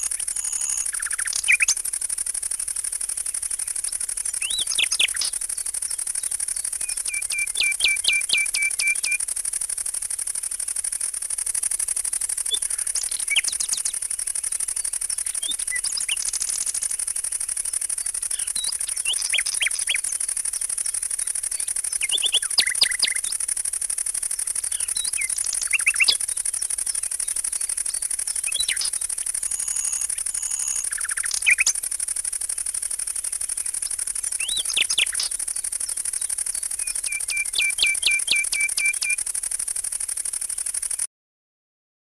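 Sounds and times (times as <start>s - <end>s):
steady high-pitched hiss: 0.0s - 41.1s.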